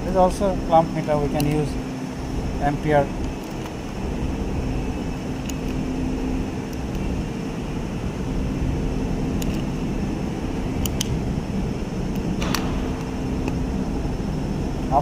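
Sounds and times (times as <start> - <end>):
low held tone: 0.0 - 15.0
steady background drone: 0.0 - 15.0.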